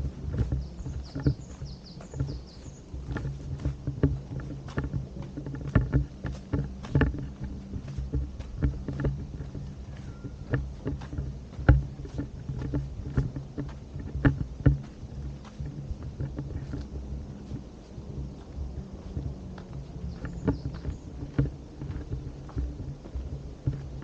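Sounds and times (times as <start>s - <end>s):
footsteps: 0.0s - 24.0s
wind rumble on microphone: 0.0s - 24.0s.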